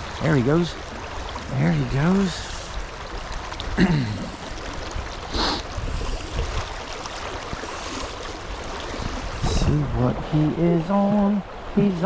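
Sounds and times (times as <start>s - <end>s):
fast river current rushing: 0.0s - 12.0s.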